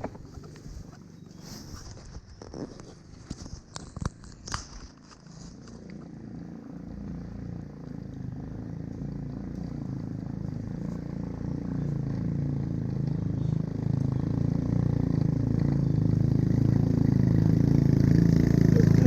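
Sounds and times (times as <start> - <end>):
small motorcycle engine: 0.0 - 19.0.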